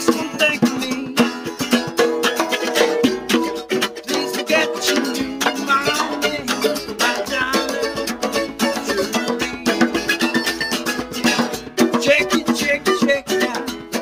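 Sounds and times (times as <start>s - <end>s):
acoustic guitar strumming: 0.0s - 14.0s
djembe played by hand: 0.0s - 14.0s
mandolin picking: 0.0s - 14.0s.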